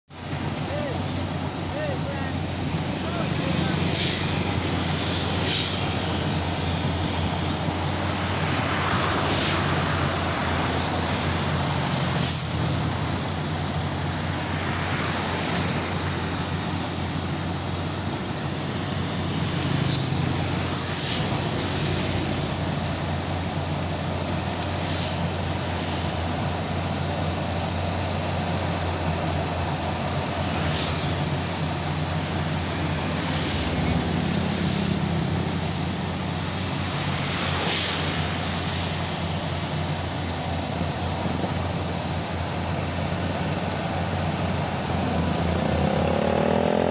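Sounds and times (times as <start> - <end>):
combine harvester engine and threshing: 0.1 - 46.9.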